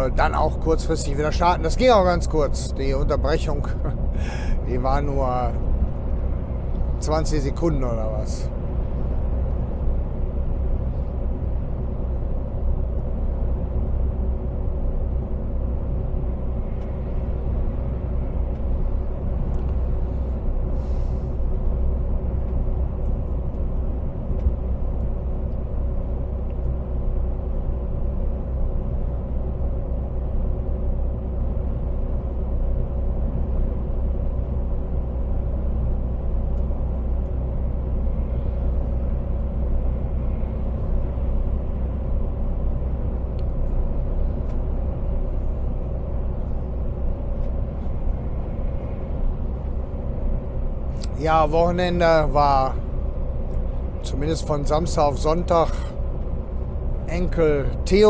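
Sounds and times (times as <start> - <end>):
truck engine and road drone: 0.0 - 58.0.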